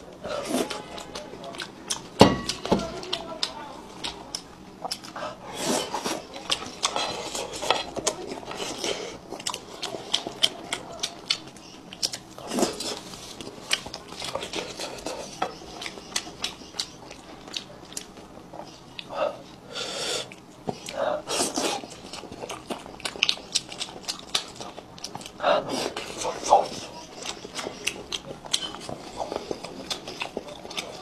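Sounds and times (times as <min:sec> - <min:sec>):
close-miked eating and chewing: 0:00.0 - 0:31.0.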